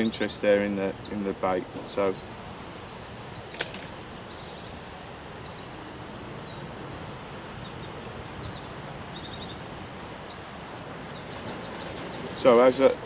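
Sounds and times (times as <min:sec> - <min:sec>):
songbirds chirping: 0:00.0 - 0:13.0
steady background hiss: 0:00.0 - 0:13.0.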